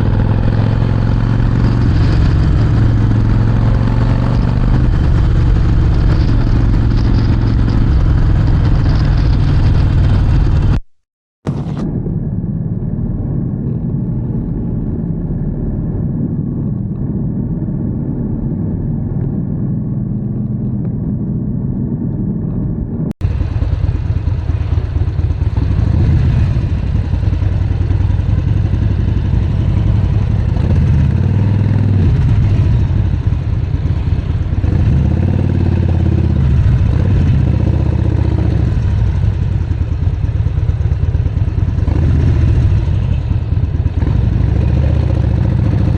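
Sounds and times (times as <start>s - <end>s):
motorcycle engine while riding: 0.0s - 10.9s, 11.5s - 45.9s.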